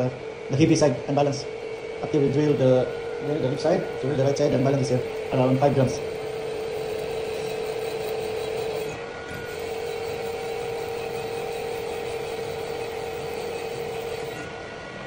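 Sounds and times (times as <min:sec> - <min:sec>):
drill press boring steel: 0:01.6 - 0:14.6.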